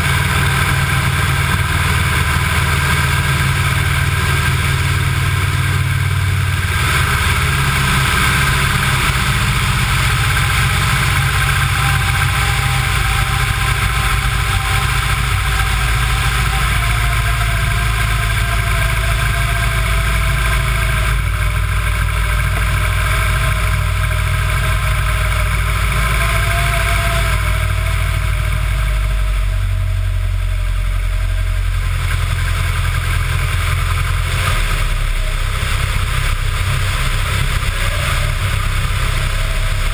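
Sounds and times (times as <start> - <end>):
light aircraft engine in flight: 0.0 - 39.9.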